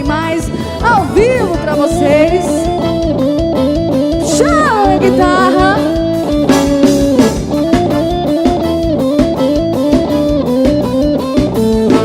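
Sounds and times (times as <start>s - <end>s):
bass guitar: 0.0s - 12.0s
electric guitar solo: 0.0s - 12.0s
steady drum beat: 0.0s - 12.0s.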